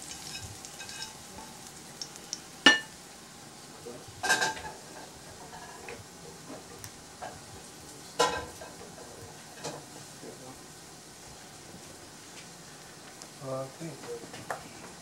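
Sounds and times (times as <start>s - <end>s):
frying pan sizzling: 0.0s - 15.0s.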